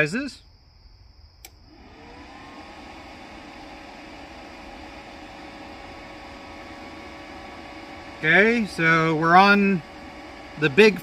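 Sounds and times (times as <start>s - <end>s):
cooling fan hiss and whine: 1.4s - 11.0s.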